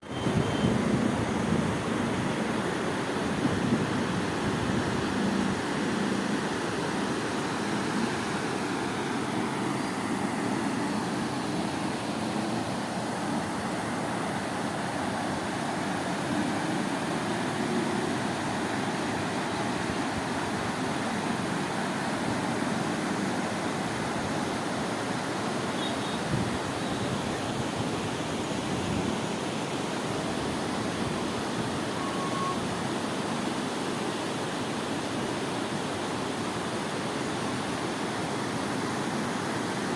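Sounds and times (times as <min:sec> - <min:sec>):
rushing floodwater: 0:00.0 - 0:39.9.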